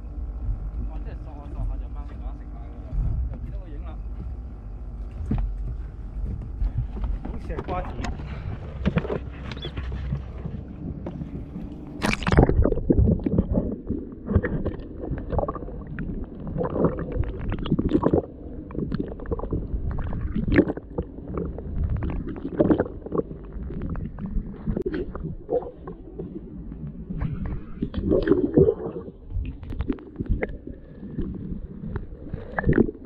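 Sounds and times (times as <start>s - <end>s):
muffled underwater sloshing: 0.0s - 33.0s.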